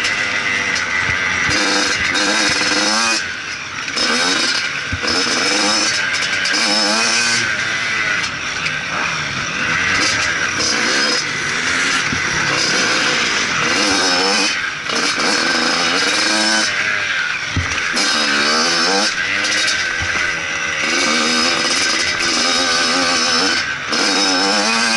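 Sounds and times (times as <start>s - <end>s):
steady rushing noise: 0.0s - 22.7s
motocross bike engine revving: 0.0s - 24.9s.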